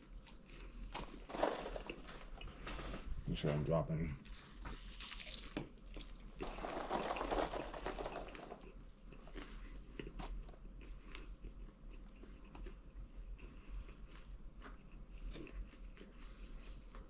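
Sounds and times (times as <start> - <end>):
person chewing popcorn: 0.0 - 2.9, 4.2 - 17.0.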